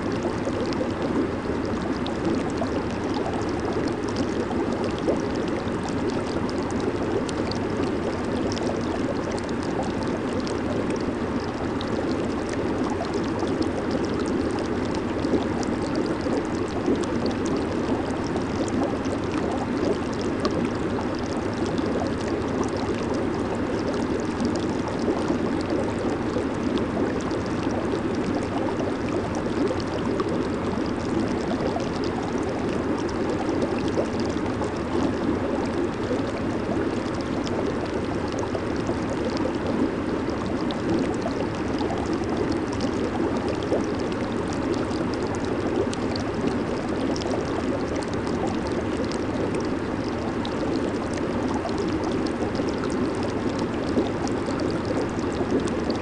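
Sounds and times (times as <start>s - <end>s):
hot tub water bubbling: 0.0s - 56.0s.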